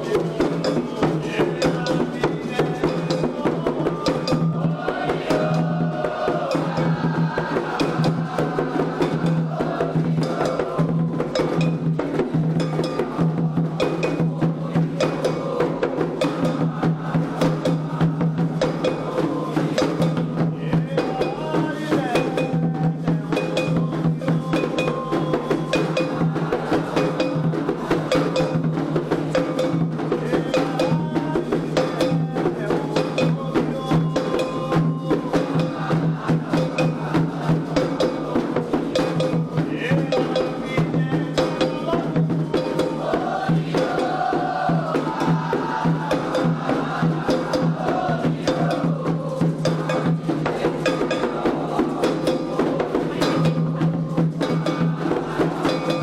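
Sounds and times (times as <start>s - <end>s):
hand drums playing fast rhythm: 0.0s - 56.0s
voices singing: 0.0s - 56.0s.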